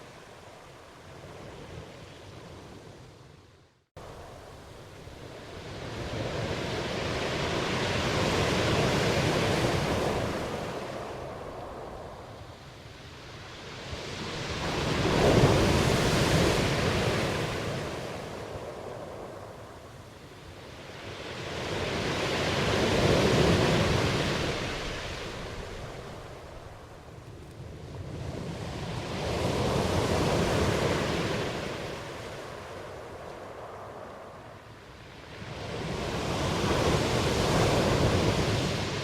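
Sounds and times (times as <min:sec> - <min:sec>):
ocean waves washing: 0:04.0 - 0:27.1, 0:27.9 - 0:39.0.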